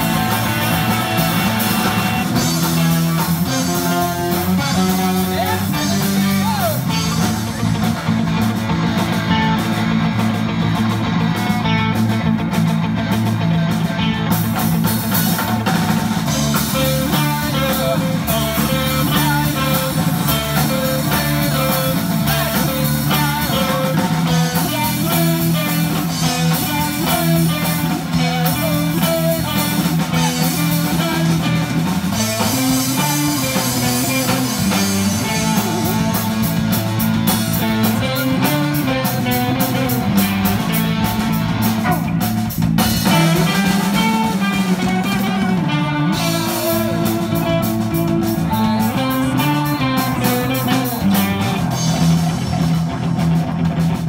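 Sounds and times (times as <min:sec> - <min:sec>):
bass guitar: 0:00.0 - 0:54.0
drum kit: 0:00.0 - 0:54.0
electric guitar riffing: 0:00.0 - 0:54.0.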